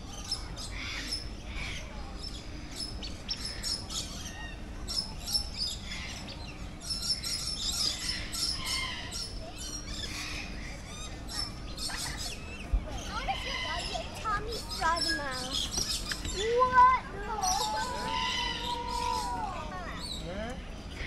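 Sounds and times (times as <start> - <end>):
birds chirping and squawking: 0.1 - 21.0.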